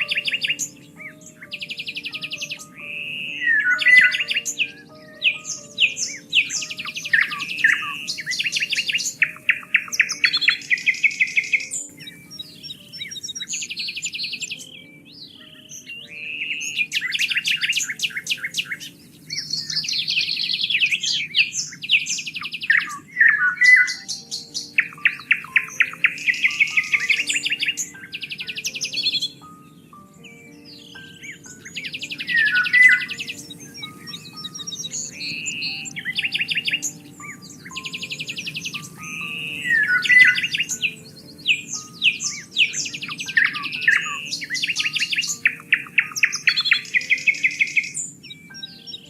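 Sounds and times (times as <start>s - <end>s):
songbirds singing: 0.0s - 49.0s.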